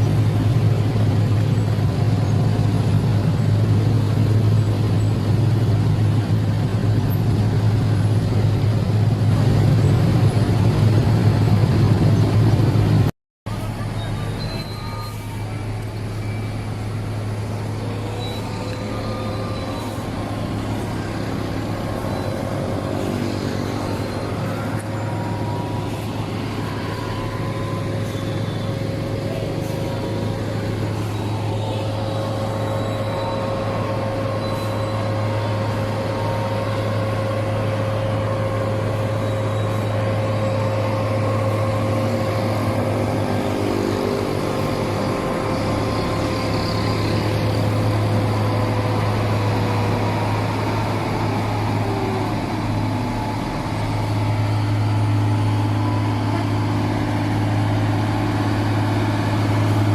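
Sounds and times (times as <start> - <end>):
truck diesel engine labouring: 0.0 - 59.9.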